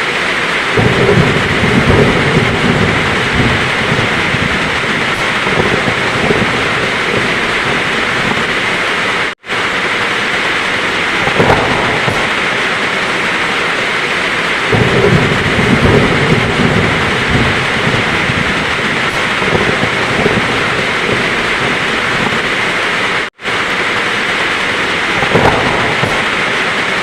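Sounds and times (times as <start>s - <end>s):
heavy rain falling: 0.0s - 27.0s
thunder rumbling: 0.0s - 27.0s.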